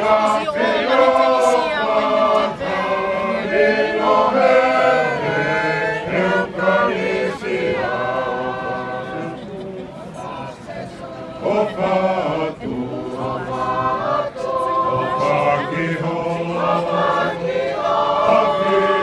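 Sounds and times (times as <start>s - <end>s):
crowd singing unaccompanied: 0.0s - 19.0s.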